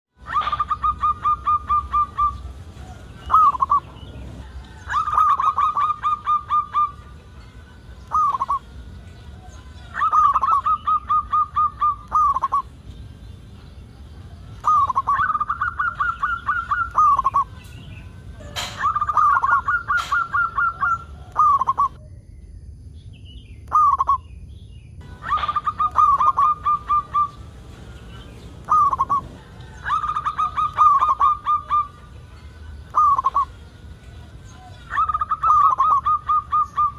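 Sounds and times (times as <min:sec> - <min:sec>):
dove cooing: 0:00.2 - 0:07.2, 0:08.0 - 0:12.8, 0:14.3 - 0:17.7, 0:18.3 - 0:22.0, 0:25.0 - 0:36.9.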